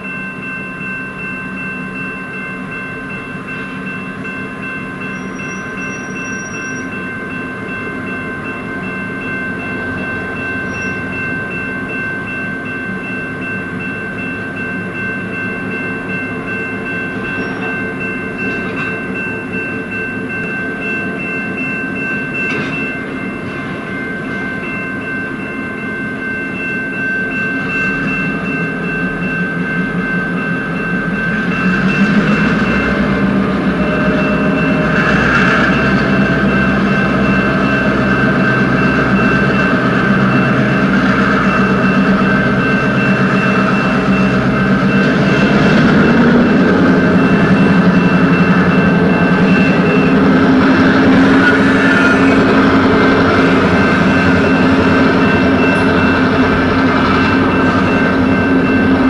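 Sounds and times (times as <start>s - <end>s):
diesel locomotive engine rumble: 0.0s - 59.0s
high whine: 0.0s - 59.0s.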